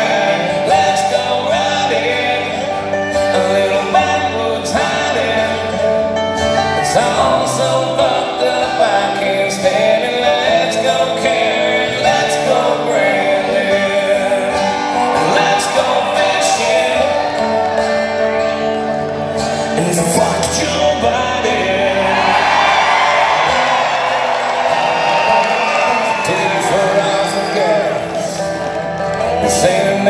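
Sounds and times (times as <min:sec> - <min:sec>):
acoustic guitars strummed: 0:00.0 - 0:30.0
man singing: 0:00.0 - 0:30.0.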